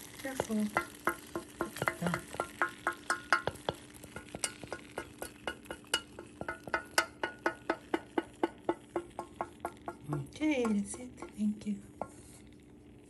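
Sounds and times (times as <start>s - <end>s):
steady low hum: 0.0s - 13.0s
utensil clinking in a pot: 0.2s - 12.4s.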